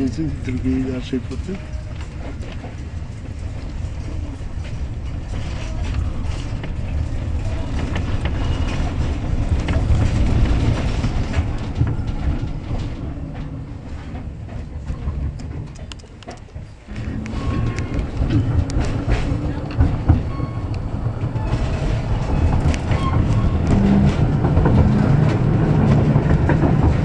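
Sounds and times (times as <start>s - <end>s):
tram wheels rumbling: 0.0s - 27.0s
wheels clicking over rail joints: 0.0s - 27.0s.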